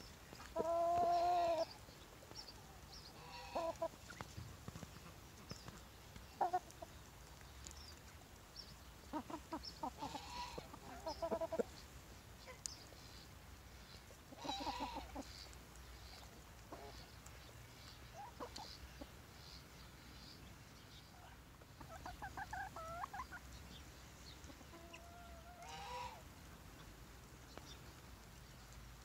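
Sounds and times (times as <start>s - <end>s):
chickens clucking: 0.3s - 19.8s, 20.9s - 26.9s.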